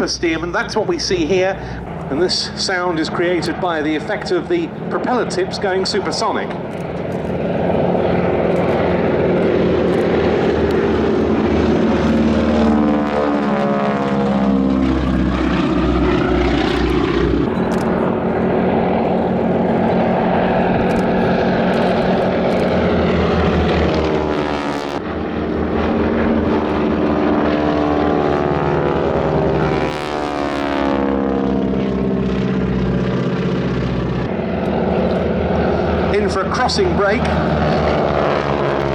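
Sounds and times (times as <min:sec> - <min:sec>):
rasping propeller tips: 0:00.0 - 0:25.0, 0:32.2 - 0:38.9
biplane radial engines: 0:00.0 - 0:38.9.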